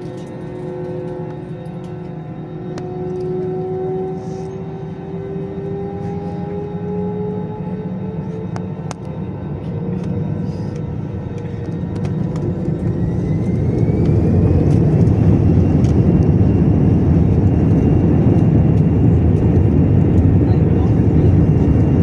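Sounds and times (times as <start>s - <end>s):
jet engines spooling up: 0.0s - 22.0s.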